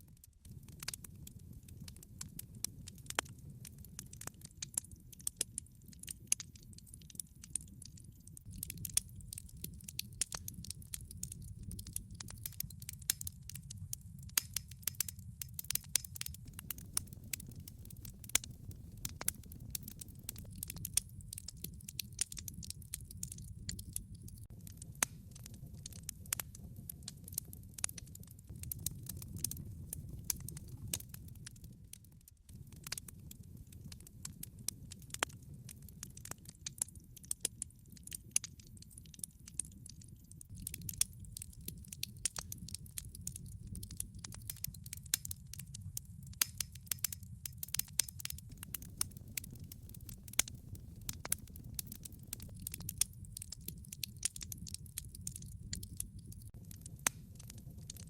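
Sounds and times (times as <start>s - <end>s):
log fire crackling: 0.0s - 58.0s.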